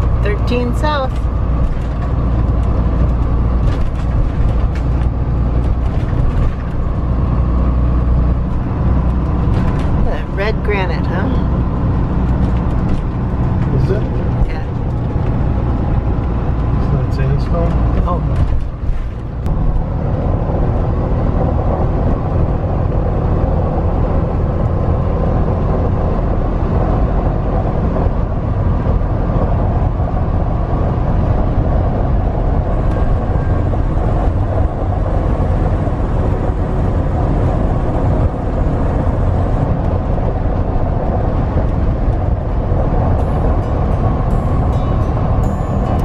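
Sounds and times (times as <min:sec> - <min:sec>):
engine and tyre road noise: 0:00.0 - 0:46.0.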